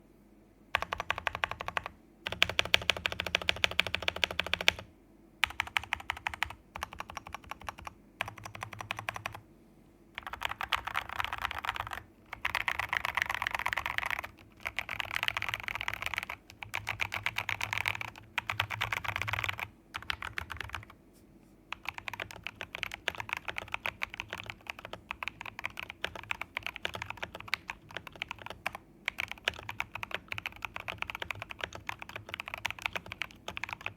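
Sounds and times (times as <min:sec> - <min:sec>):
mechanical keyboard typing: 0:00.8 - 0:09.4, 0:10.2 - 0:20.9, 0:21.7 - 0:33.9.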